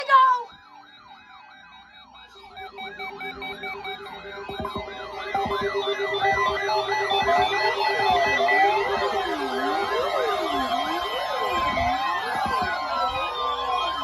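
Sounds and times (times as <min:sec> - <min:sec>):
electronic siren yelping: 0:00.0 - 0:14.0
steady pulsing tone: 0:00.0 - 0:14.0.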